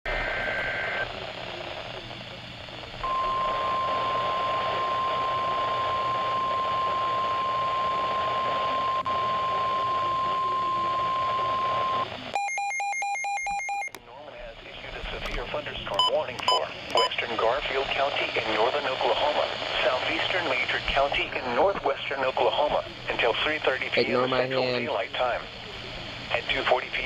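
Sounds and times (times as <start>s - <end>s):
radio static hiss: 0.1s - 12.4s, 13.9s - 27.0s.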